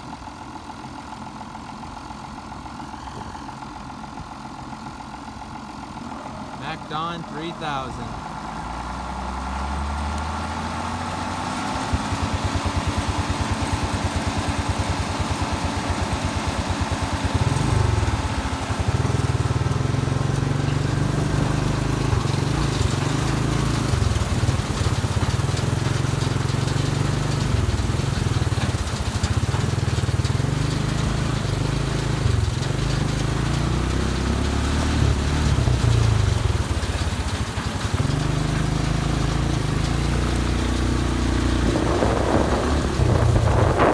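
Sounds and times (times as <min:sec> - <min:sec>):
harvester engine running: 0:01.7 - 0:43.9.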